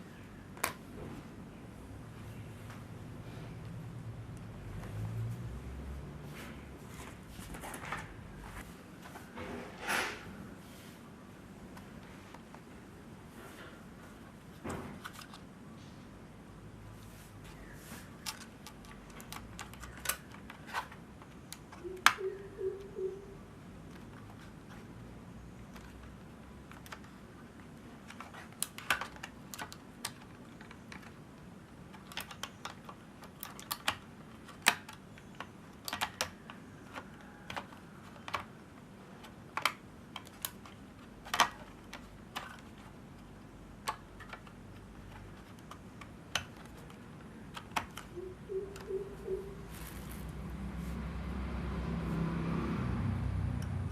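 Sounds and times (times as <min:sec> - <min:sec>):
faint steady hum: 0:00.0 - 0:52.3.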